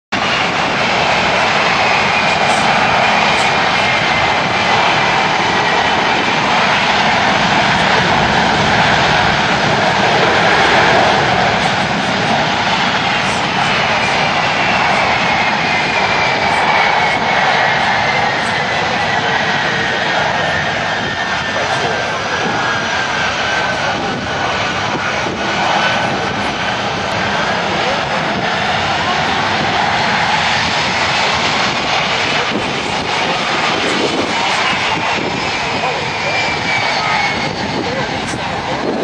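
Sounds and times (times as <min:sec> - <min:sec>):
aircraft engines running: 0:00.1 - 0:39.0
high engine whine: 0:00.1 - 0:39.0.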